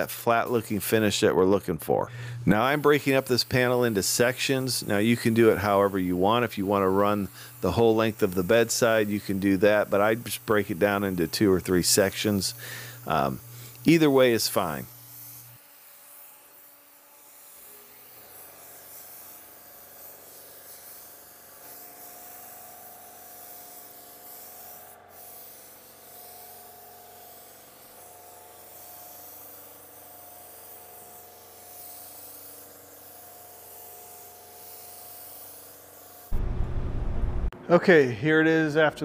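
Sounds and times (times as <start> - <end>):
spray gun hissing: 2.3 - 36.4.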